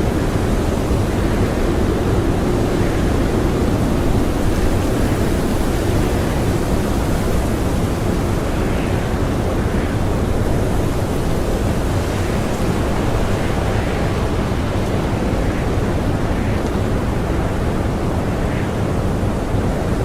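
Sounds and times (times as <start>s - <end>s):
strong blizzard wind: 0.0s - 20.0s.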